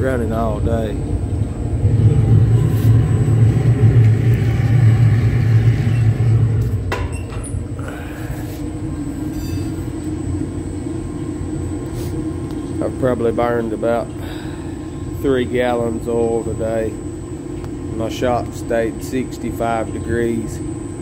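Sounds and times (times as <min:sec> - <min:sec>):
oil burner flame rumbling: 0:00.0 - 0:21.0.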